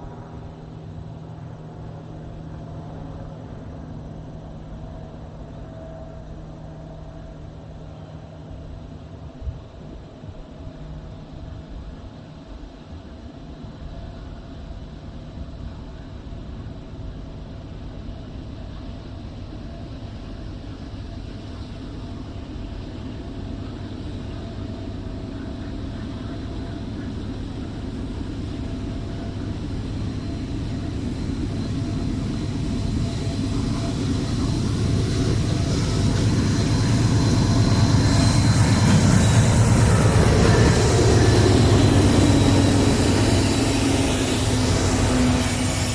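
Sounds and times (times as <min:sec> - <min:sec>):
diesel train engine rumble: 0:00.0 - 0:45.9.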